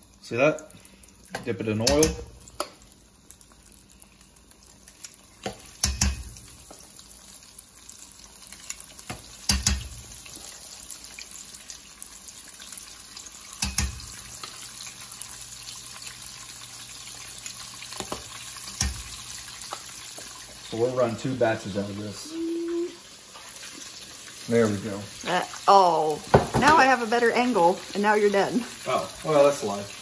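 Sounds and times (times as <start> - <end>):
batter sizzling in hot oil: 0.0 - 30.0.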